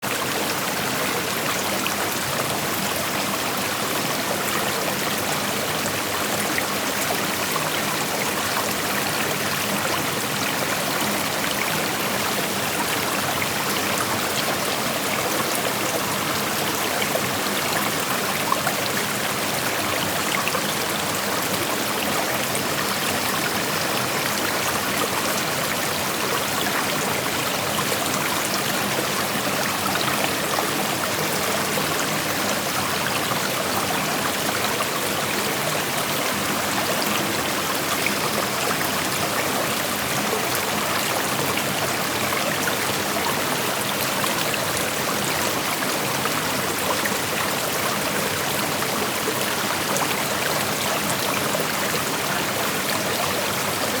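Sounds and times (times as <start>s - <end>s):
creek flowing over rocks: 0.0s - 54.0s.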